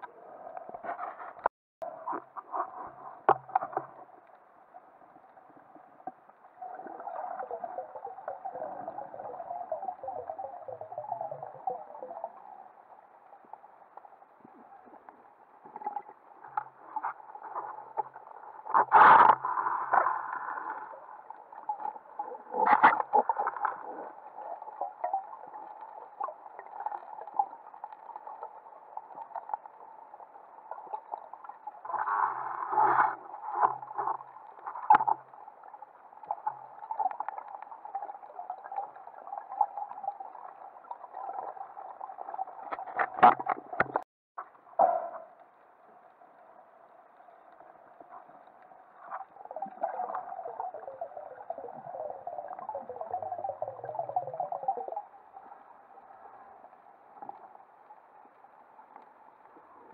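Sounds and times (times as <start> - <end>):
muffled underwater noise: 0.0 - 59.9.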